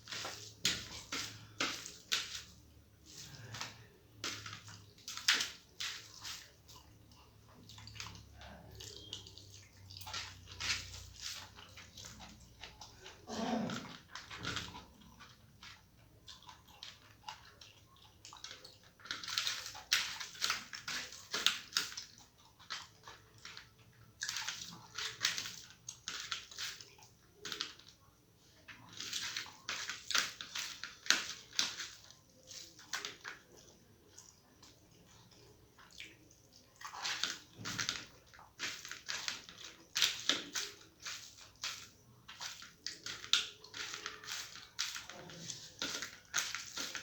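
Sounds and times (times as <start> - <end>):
wet smacking chewing: 0.0 - 47.0.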